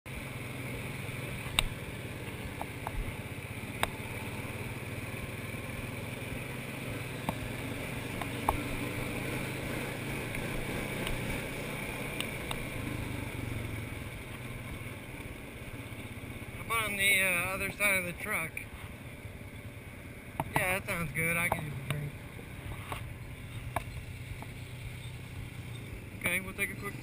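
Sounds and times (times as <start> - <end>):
atv engine running: 0.1 - 27.0.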